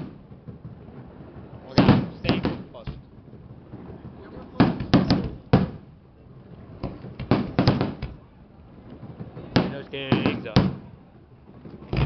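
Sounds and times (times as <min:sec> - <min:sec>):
fireworks bangs: 0:00.0 - 0:06.0, 0:06.6 - 0:12.0.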